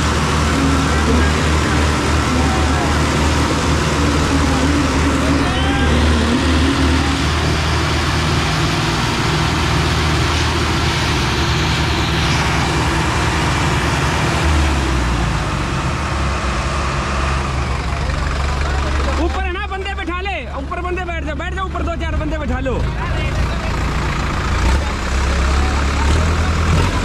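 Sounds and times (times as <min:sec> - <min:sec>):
diesel tractor engine rumbling: 0:00.0 - 0:27.0.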